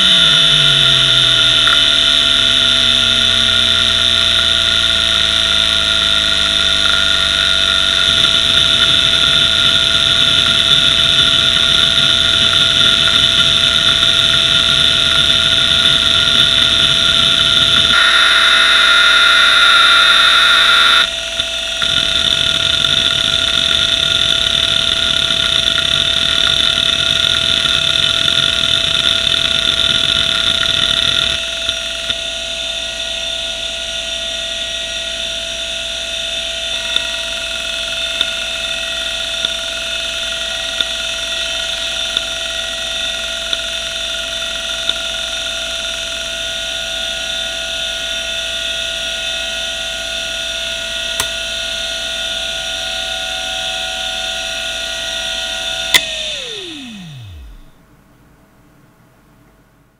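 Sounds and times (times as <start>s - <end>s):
hard drive spindle whine: 0.0s - 57.9s.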